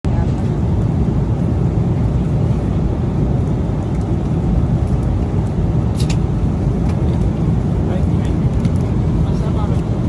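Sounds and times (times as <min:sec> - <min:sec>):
airliner engine rumble: 0:00.0 - 0:10.0.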